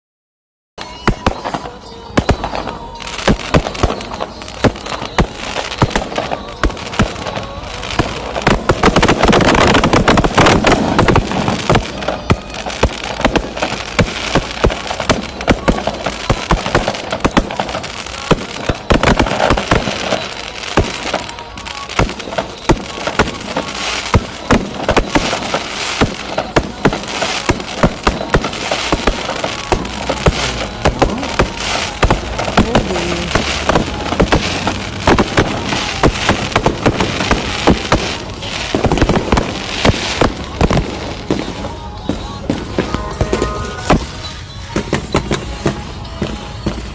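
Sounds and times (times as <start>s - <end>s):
fireworks bangs and crackling: 0.8s - 46.9s.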